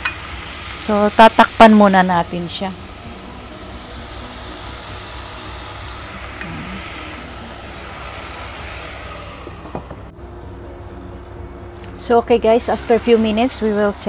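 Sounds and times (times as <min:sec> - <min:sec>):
food sizzling in a pot: 0:00.0 - 0:11.0, 0:11.6 - 0:14.0
low hum: 0:00.0 - 0:13.2.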